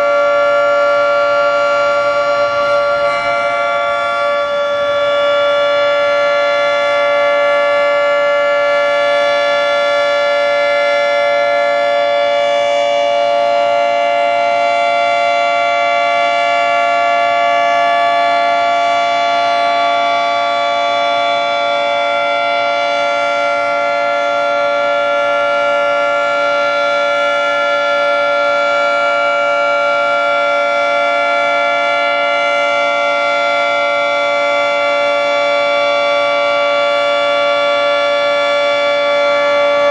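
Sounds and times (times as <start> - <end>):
three-tone warning siren: 0.0 - 39.9.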